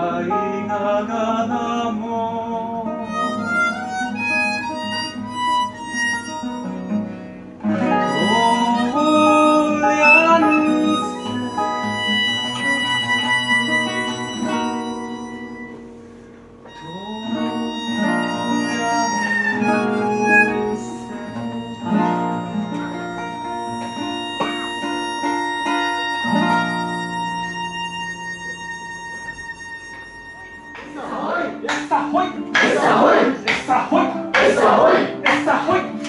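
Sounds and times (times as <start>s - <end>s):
acoustic guitar accompaniment: 0.0s - 36.0s
harmonica playing slow melody: 2.9s - 33.4s.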